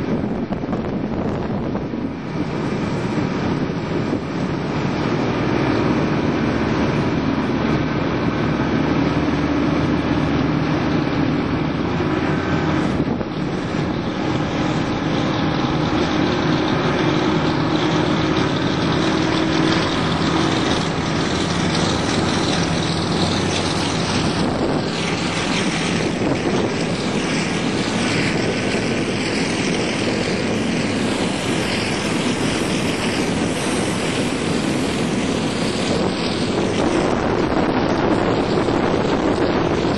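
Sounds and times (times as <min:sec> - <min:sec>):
boat engine running: 0:00.0 - 0:39.9
water rushing past hull: 0:00.0 - 0:39.9
wind: 0:00.0 - 0:39.9.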